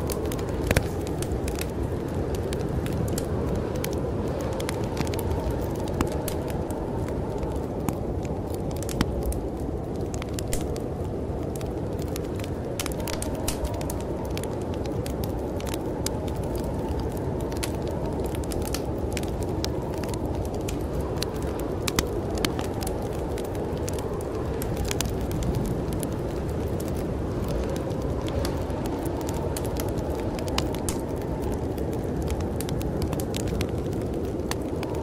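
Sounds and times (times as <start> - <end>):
storm wind rushing: 0.0 - 35.0
wood fire crackling: 0.0 - 35.0.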